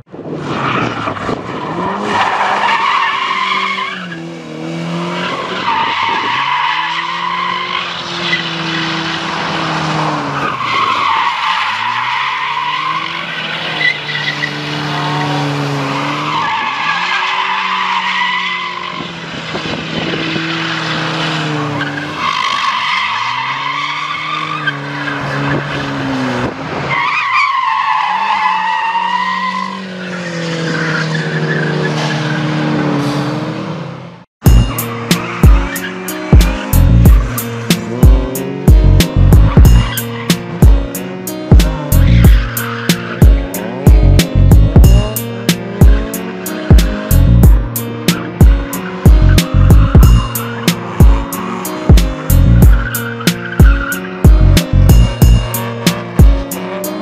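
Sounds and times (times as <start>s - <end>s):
car engine revving: 0.0s - 57.0s
tyres screeching: 0.9s - 4.3s, 4.9s - 19.6s, 20.3s - 26.3s, 26.9s - 33.5s, 34.4s - 57.0s.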